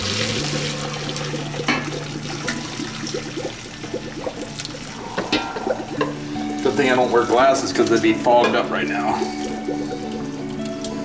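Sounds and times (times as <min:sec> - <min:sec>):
water pouring through a colander: 0:00.0 - 0:11.0
water trickling and splashing: 0:00.0 - 0:11.0.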